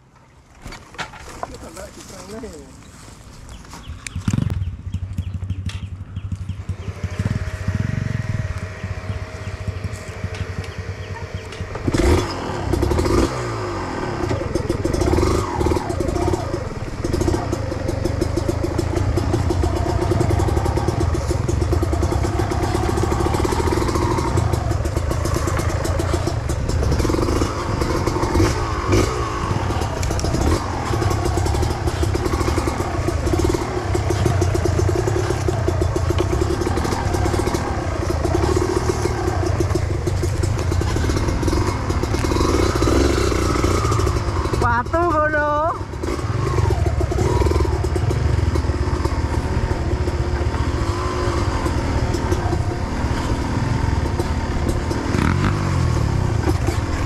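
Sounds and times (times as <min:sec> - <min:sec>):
motorcycle engine revving: 0:03.8 - 0:57.0.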